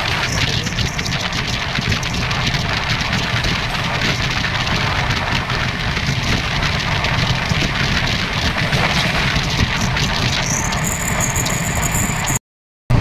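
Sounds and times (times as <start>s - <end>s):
fast rattle and hiss: 0.0s - 12.4s
train wheels rumbling: 0.0s - 12.4s.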